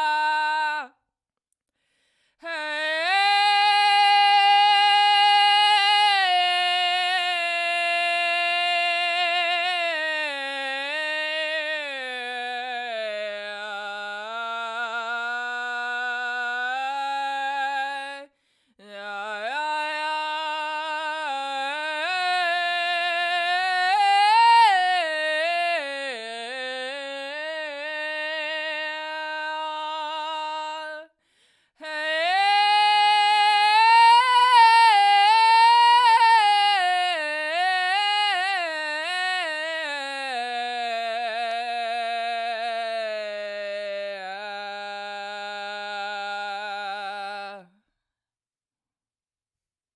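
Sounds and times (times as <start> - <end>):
woman singing a cappella: 0.0 - 1.0, 2.4 - 31.2, 31.8 - 47.8.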